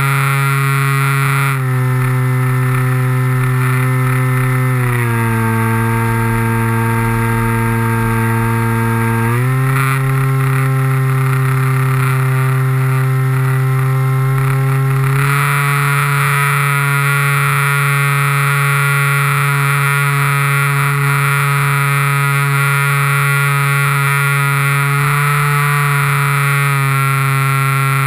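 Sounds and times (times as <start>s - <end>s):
model airplane motor whine: 0.0s - 28.0s.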